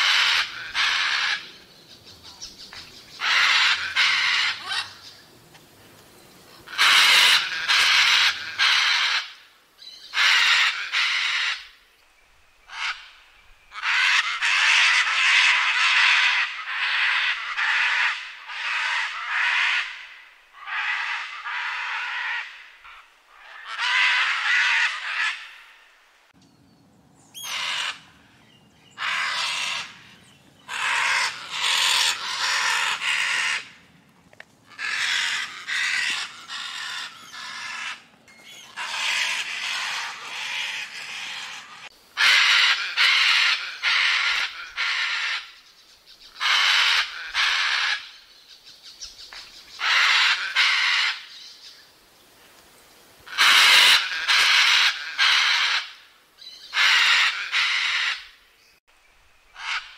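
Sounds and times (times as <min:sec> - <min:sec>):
macaw screaming calls: 0:00.0 - 0:01.6, 0:03.1 - 0:05.1, 0:06.7 - 0:11.8, 0:12.7 - 0:25.8, 0:27.4 - 0:28.2, 0:28.9 - 0:33.8, 0:34.7 - 0:48.3, 0:49.7 - 0:51.5, 0:53.3 - 0:58.4, 0:59.5 - 0:59.9.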